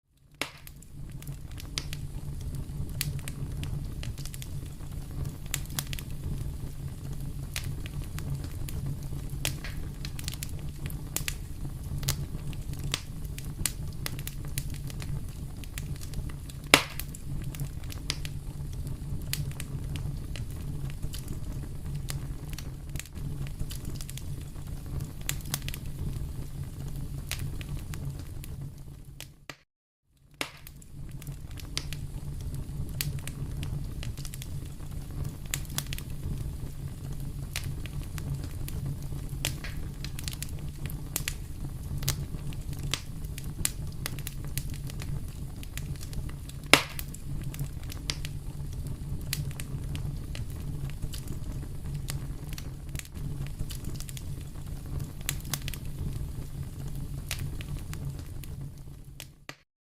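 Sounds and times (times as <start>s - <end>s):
fireplace fire crackling: 0.1s - 29.6s, 30.2s - 59.6s.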